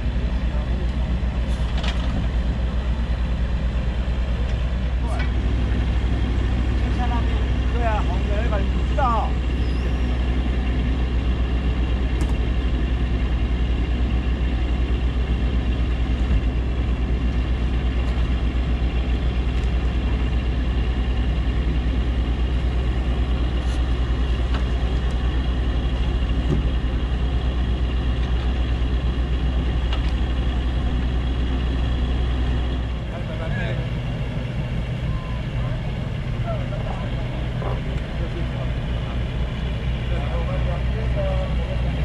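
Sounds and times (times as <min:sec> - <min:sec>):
diesel engine running steadily: 0:00.0 - 0:42.0.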